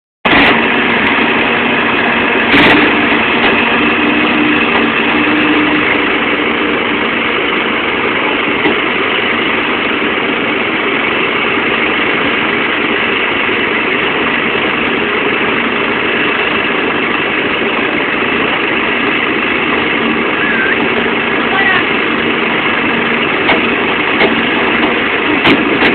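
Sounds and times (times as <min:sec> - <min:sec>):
excavator diesel engine running: 0:00.2 - 0:25.9.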